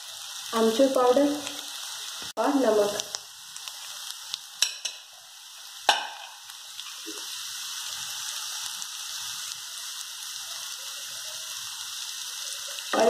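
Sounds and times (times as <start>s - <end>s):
potatoes sizzling in hot fat: 0.0s - 13.0s.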